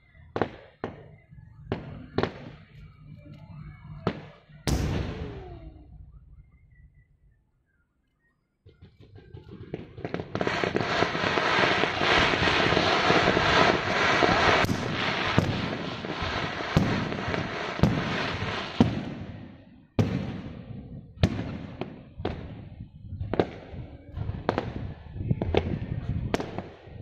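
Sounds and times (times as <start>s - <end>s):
fireworks crackling: 0.0s - 6.6s, 8.7s - 27.0s
fireworks bangs: 0.0s - 7.1s, 8.6s - 27.0s.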